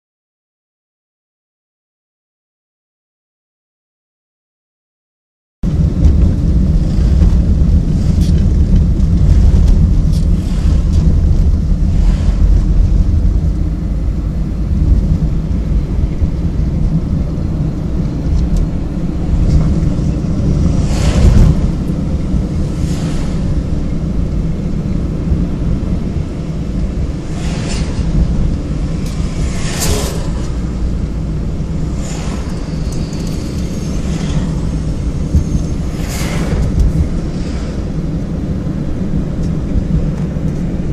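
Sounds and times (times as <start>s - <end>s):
road and engine rumble inside car: 5.6s - 40.9s.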